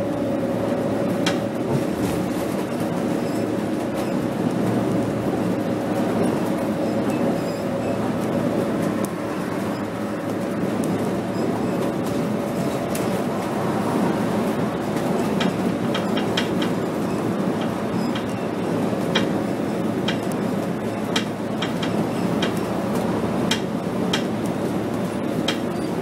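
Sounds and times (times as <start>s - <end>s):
bus engine and tyre drone: 0.0s - 26.0s.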